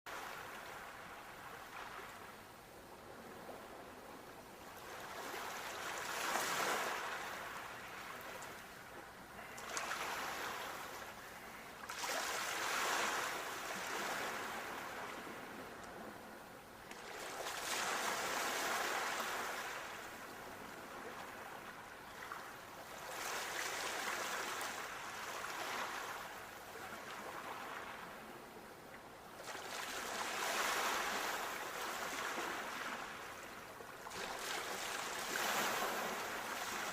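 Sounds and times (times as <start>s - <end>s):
sea waves breaking on shore: 0.1s - 28.4s, 29.2s - 36.9s.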